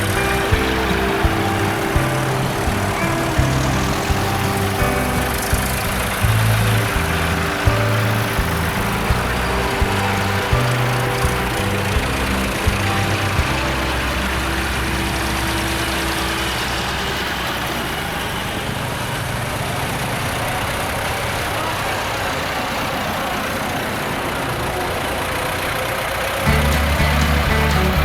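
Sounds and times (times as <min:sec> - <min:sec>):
tractor engines running: 0:00.0 - 0:28.0.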